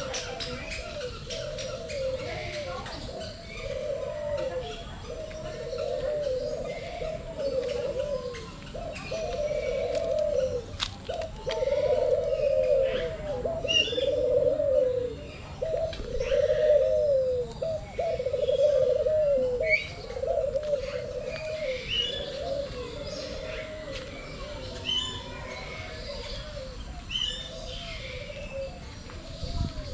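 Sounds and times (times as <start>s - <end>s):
pigeons cooing: 0.0s - 29.9s.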